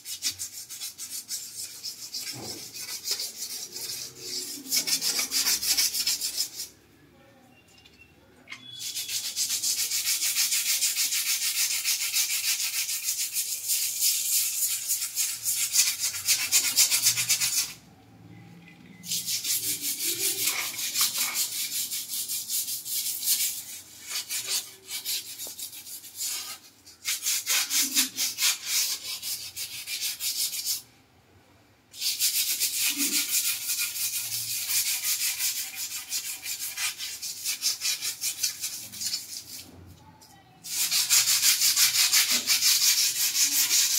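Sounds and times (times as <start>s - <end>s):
scrubber rubbing on tiles: 0.0s - 6.8s, 8.5s - 17.8s, 18.6s - 30.8s, 31.9s - 40.0s, 40.6s - 43.9s.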